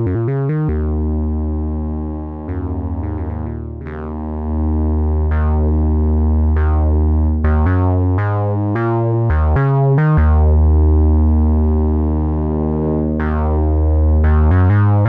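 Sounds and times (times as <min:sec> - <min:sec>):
analog synthesizer bass line: 0:00.0 - 0:15.0.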